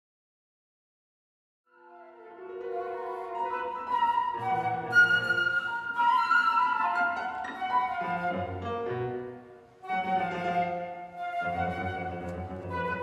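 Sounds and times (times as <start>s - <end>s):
instrumental ensemble music: 1.7s - 13.0s.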